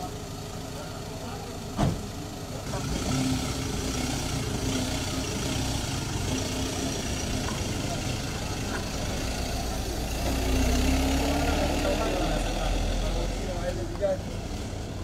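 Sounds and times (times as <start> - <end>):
pickup truck driving past: 2.6 - 15.0.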